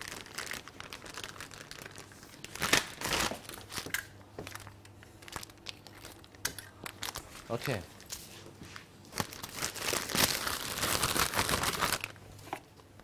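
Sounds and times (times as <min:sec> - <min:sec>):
plastic bag crinkling: 0:00.0 - 0:07.8, 0:09.1 - 0:12.6.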